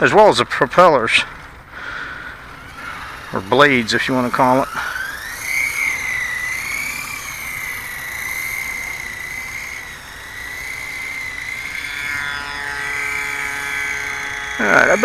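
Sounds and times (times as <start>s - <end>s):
rc helicopter rotors whining: 0.0s - 15.0s
low buzzing tone: 1.0s - 15.0s.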